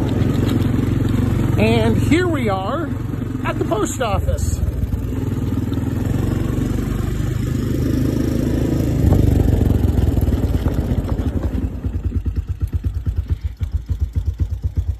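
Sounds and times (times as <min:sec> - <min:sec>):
atv engine running: 0:00.0 - 0:14.9.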